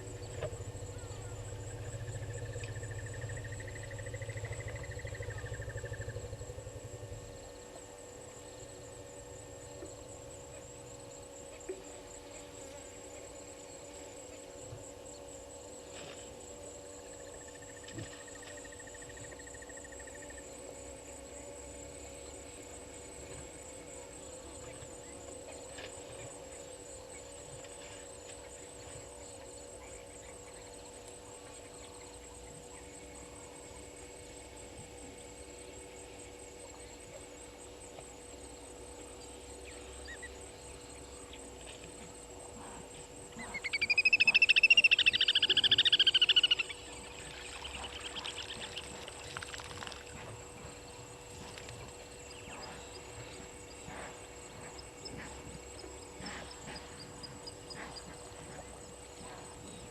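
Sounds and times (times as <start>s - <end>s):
faint calls and ticks: 0.0s - 59.9s
high-pitched insect trill: 0.0s - 59.9s
low steady hum: 0.0s - 59.9s.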